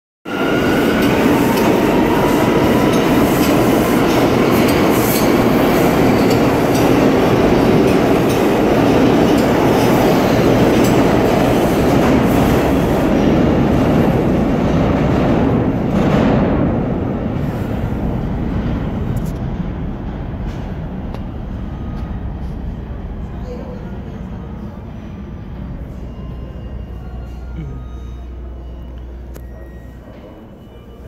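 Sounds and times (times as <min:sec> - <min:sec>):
train wheels rumbling on rail: 0:00.3 - 0:27.5.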